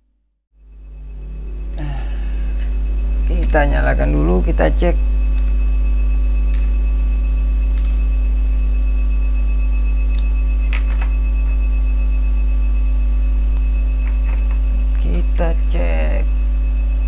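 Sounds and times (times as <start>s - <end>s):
electrical mains hum: 0.0s - 17.0s
high whine: 0.6s - 17.0s.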